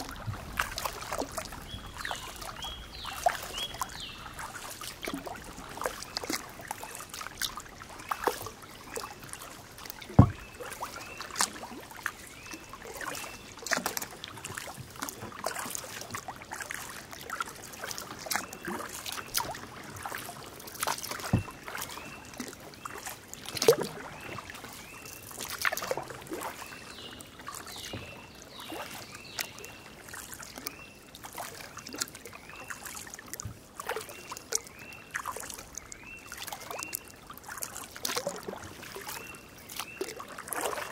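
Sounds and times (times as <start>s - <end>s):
paddle splashing in water: 0.0s - 40.9s
water trickling off paddle: 0.0s - 40.9s.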